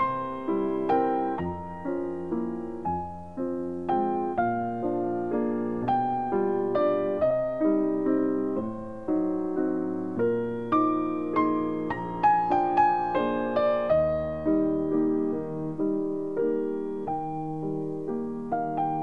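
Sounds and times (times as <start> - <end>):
slow solo piano music: 0.0 - 19.0.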